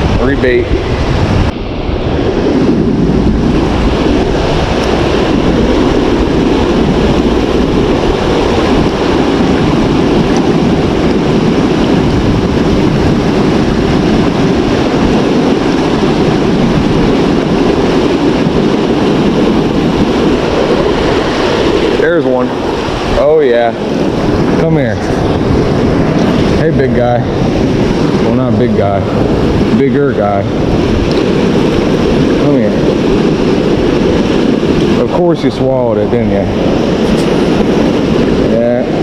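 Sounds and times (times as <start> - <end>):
water rushing over dam: 0.0 - 39.0.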